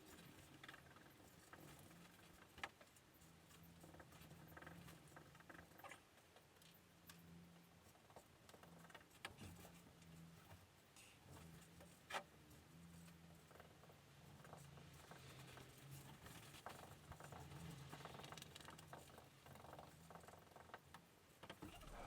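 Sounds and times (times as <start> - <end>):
faint low hum: 0.0 - 22.0
faint scratching and ticks: 0.0 - 22.0.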